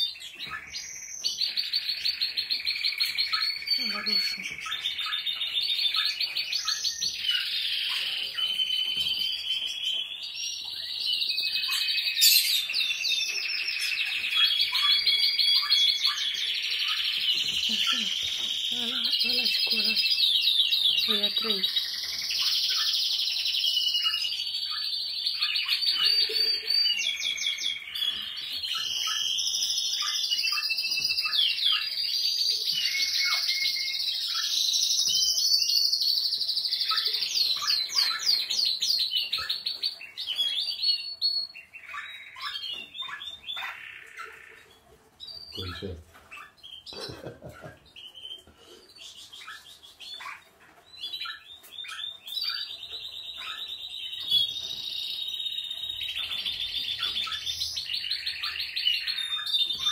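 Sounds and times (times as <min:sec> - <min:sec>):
canaries singing trills: 0:00.0 - 0:59.9.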